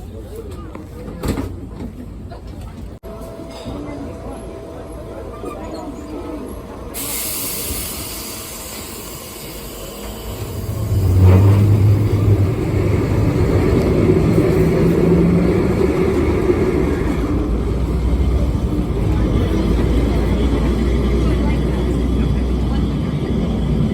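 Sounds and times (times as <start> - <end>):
electric tram on rails: 0.0 - 23.9.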